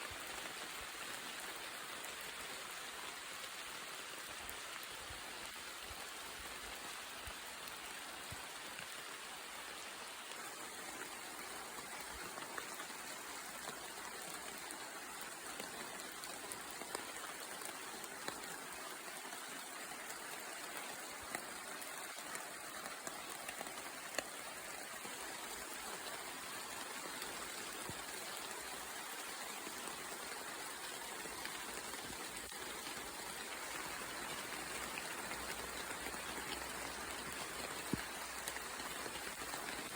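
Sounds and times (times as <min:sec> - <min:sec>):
rain pattering in forest: 0:00.0 - 0:39.9
sharp water drips: 0:00.0 - 0:39.9.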